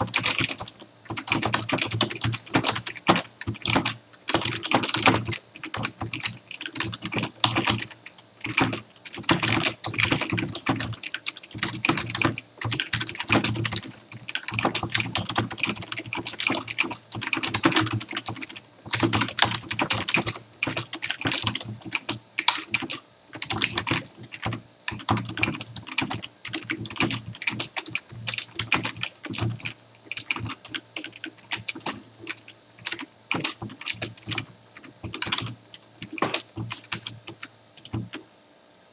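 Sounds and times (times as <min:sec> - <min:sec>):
fast typing on keyboard: 0:00.0 - 0:38.3.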